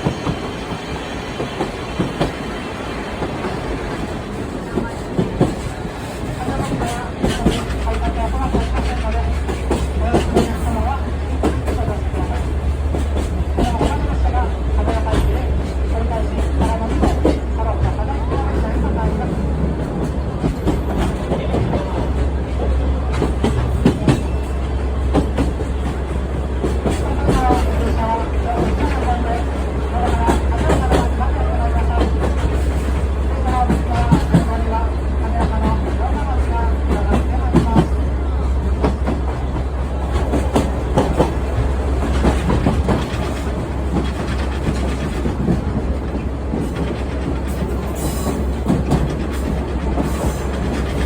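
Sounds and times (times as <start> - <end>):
train rumbling on rails: 0.0 - 51.0.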